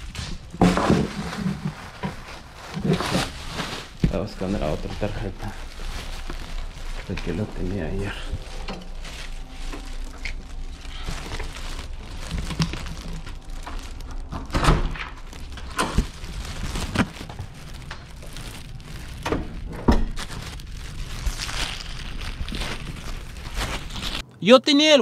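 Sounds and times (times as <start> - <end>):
footsteps: 0.0 - 14.5, 15.1 - 24.2
plastic bags rustling: 0.0 - 24.2.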